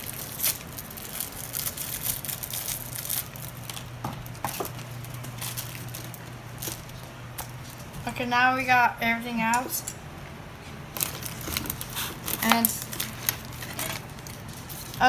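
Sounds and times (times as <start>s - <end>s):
plastic bag crinkling: 0.0s - 8.1s, 10.9s - 15.0s.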